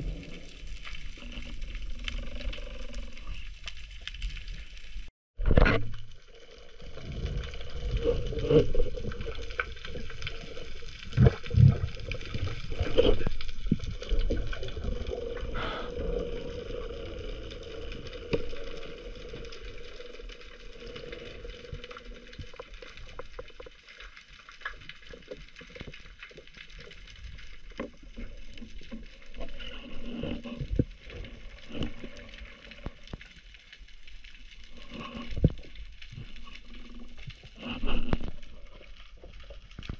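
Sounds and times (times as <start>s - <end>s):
water bubbling and swishing: 0.0s - 39.9s.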